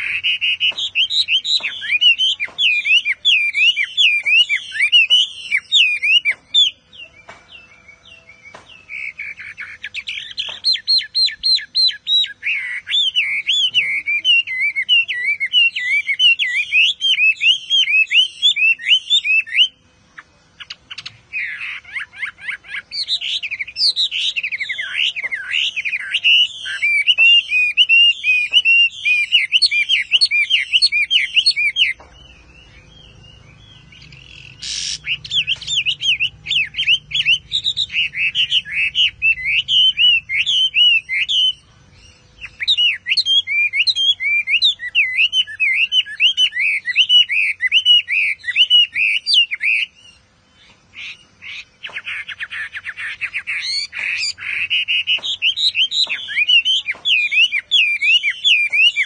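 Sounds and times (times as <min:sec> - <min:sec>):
bird buzzy trill: 0:00.0 - 0:59.0
bird whistled song: 0:00.0 - 0:59.0.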